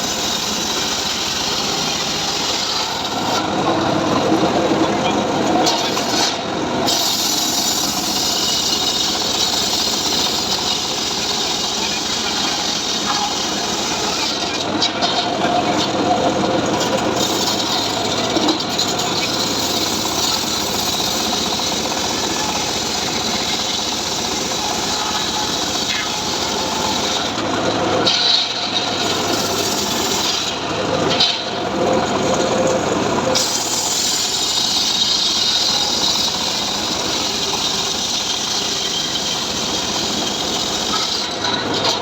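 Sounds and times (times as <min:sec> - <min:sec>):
engine-driven saw cutting wood: 0:00.0 - 0:42.0.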